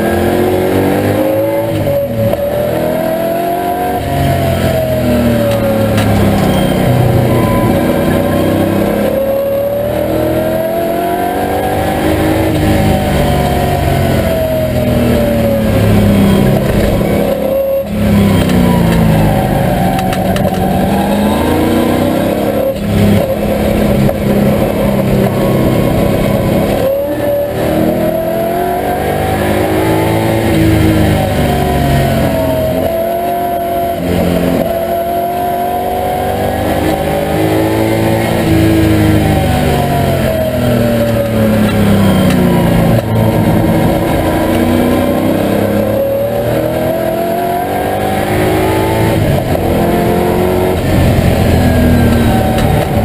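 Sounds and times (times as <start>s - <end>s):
car engine revving under load: 0.0s - 53.0s.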